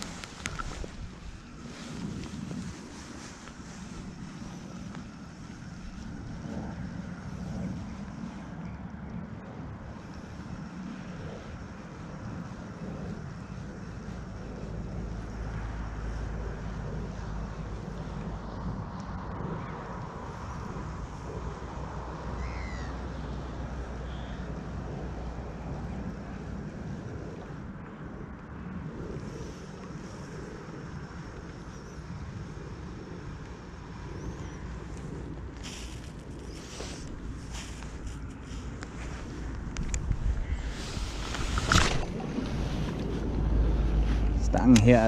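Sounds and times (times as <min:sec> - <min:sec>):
deeper rumble: 0:00.0 - 0:45.0
low engine drone: 0:00.0 - 0:45.0.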